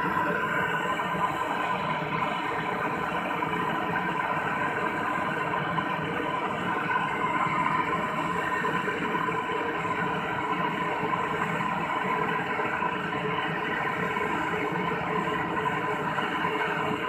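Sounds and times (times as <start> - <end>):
steady mechanical running noise: 0.0 - 17.0.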